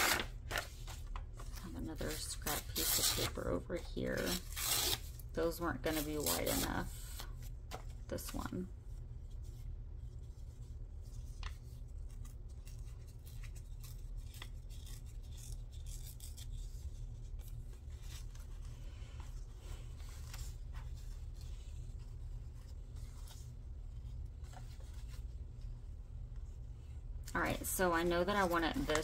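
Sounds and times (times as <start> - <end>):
paper rustling: 0.0 - 5.1, 9.3 - 26.6, 27.4 - 29.0
steady low hum: 0.0 - 29.0.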